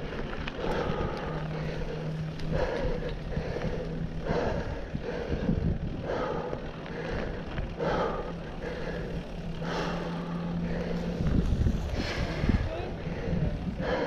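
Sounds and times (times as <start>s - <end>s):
bike tyre noise on dirt: 0.0s - 14.0s
low steady hum: 0.0s - 14.0s
wind rushing on camera: 0.0s - 14.0s.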